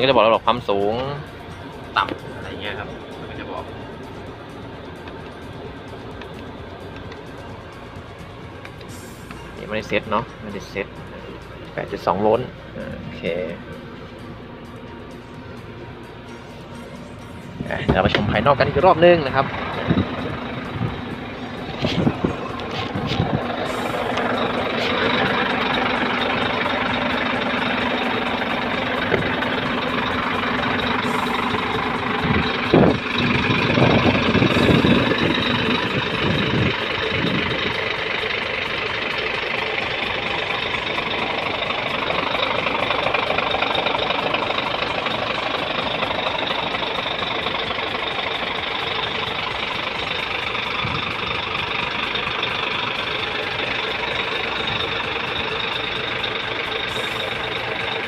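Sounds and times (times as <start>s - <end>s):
diesel truck idling: 0.0s - 58.0s.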